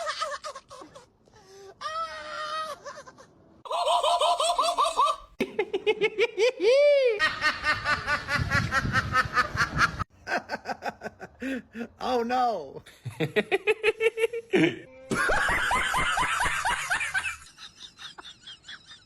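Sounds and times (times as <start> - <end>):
person laughing heartily: 2.7 - 12.0, 12.9 - 19.0.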